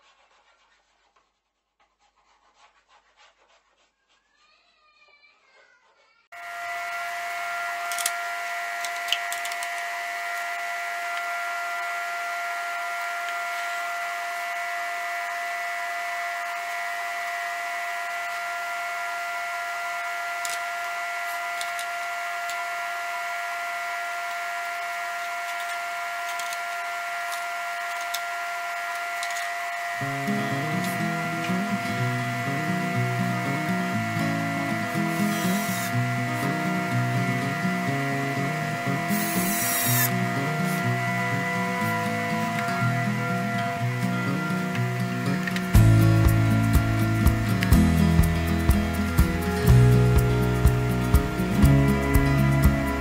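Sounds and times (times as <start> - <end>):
electric motor whining: 6.3 - 53.0.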